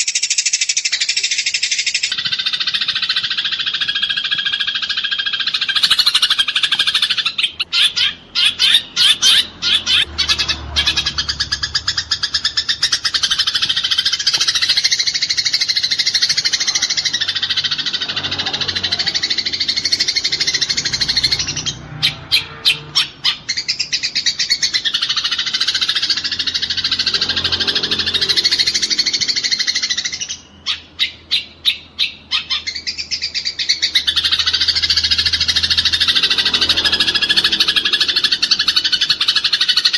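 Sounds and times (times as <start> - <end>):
sparrows chattering and chirping: 0.0 - 39.9.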